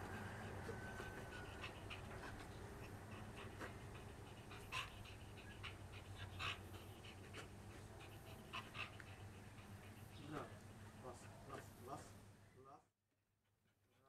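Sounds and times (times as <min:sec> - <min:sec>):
dog panting: 0:00.0 - 0:12.1, 0:13.6 - 0:14.0.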